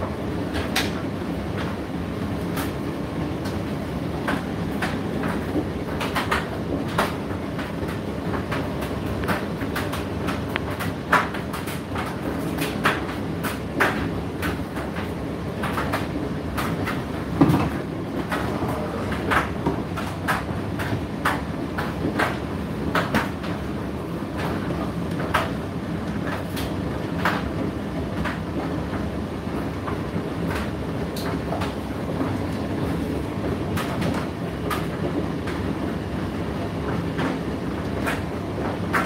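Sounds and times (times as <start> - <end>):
tumble dryer rumbling: 0.0 - 39.0.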